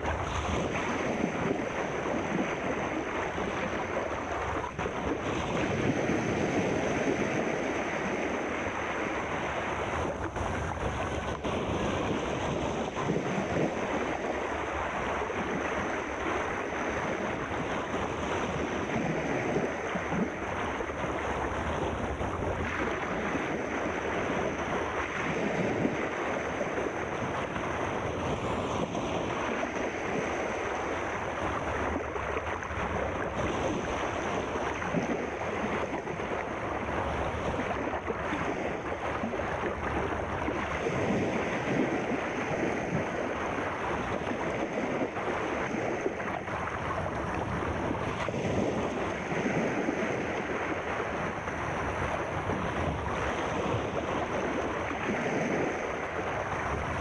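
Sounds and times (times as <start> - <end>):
sea surf rushing: 0.0 - 57.0.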